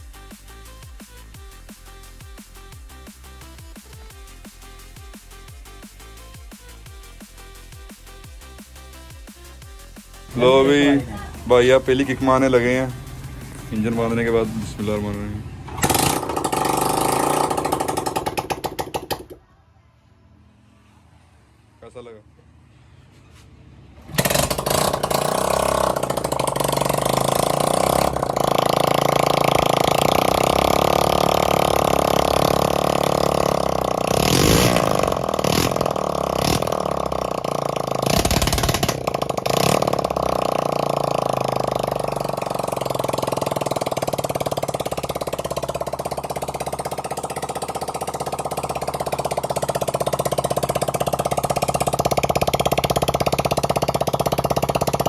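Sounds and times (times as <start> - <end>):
motorcycle engine starting and running: 0.0 - 19.7, 20.4 - 55.0.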